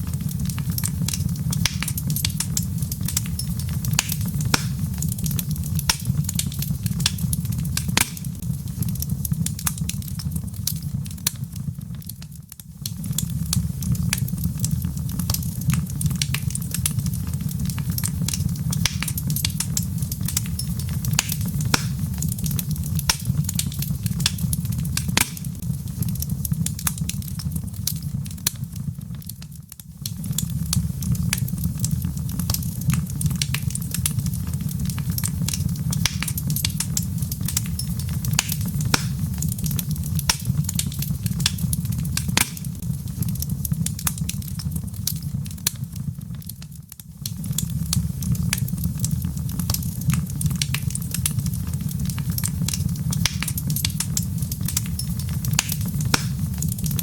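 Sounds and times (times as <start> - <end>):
fire crackling and popping: 0.0 - 57.0
low rumble of flame: 0.0 - 57.0.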